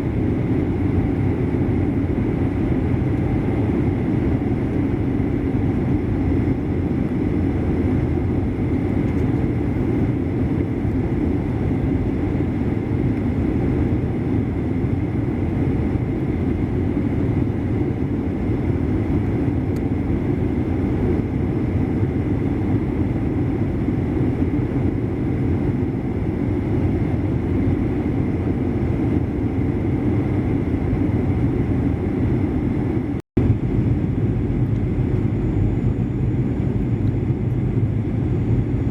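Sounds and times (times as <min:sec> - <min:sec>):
jet cabin engine roar: 0:00.0 - 0:38.9.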